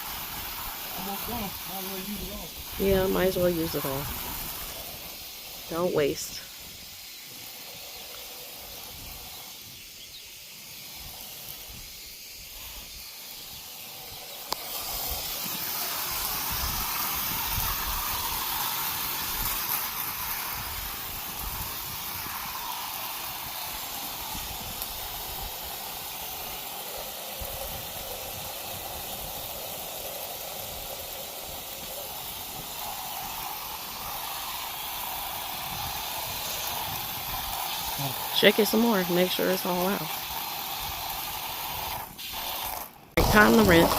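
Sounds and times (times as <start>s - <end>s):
pressure washer spraying: 0.0s - 43.9s.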